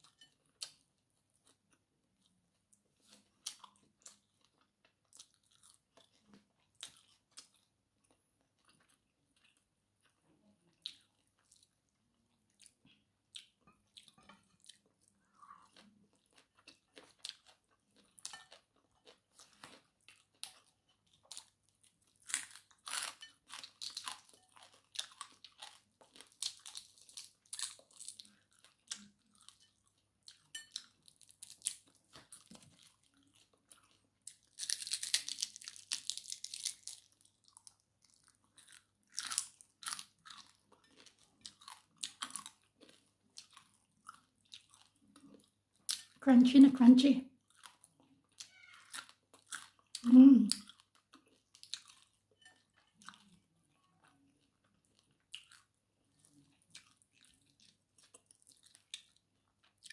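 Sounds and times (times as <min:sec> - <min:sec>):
person chewing crunchy food: 0:00.0 - 0:46.2, 0:47.4 - 0:59.9.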